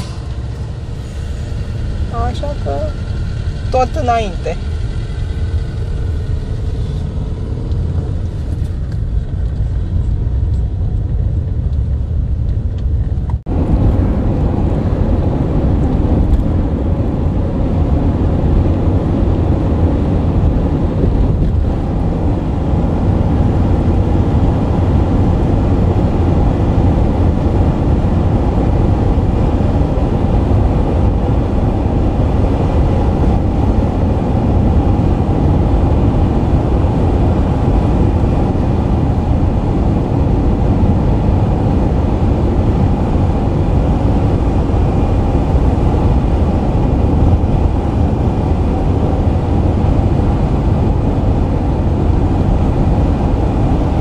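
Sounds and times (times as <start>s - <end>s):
car interior rumble: 0.0s - 54.0s.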